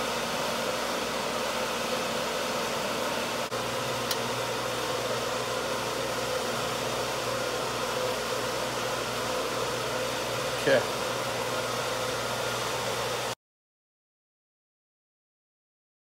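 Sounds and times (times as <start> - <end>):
machine hum and hiss: 0.0 - 13.4.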